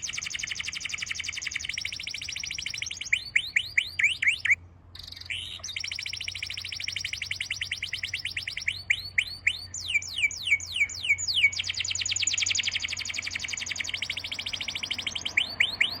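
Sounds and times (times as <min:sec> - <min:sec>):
songbird trilling: 0:00.0 - 0:16.0.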